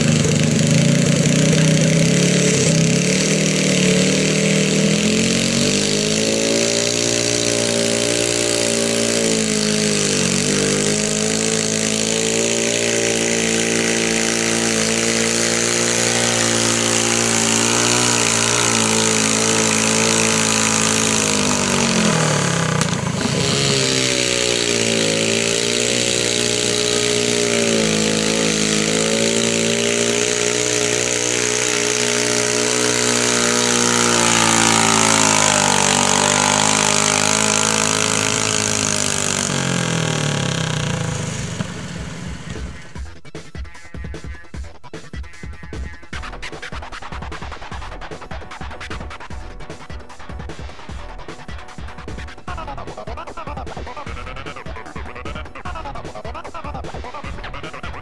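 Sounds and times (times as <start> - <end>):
tractor engines labouring: 0.0 - 43.8, 46.2 - 58.0.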